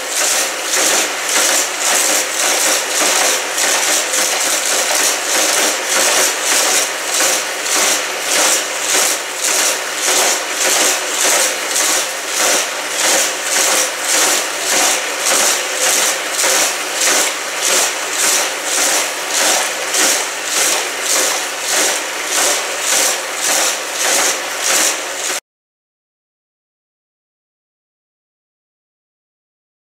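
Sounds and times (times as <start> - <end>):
toy track boosters whirring: 0.0 - 25.4.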